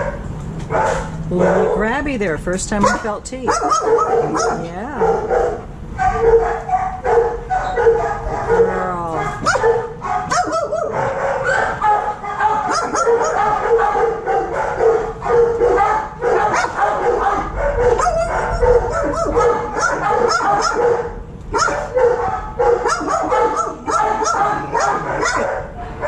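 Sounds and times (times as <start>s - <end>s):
dogs barking and yelping: 0.0s - 2.0s, 2.7s - 26.0s.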